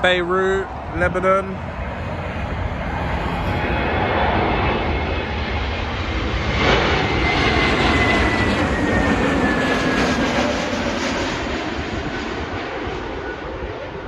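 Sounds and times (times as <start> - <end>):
high engine whine falling in pitch: 0.0 - 14.0
jet airliner engines: 0.0 - 14.0.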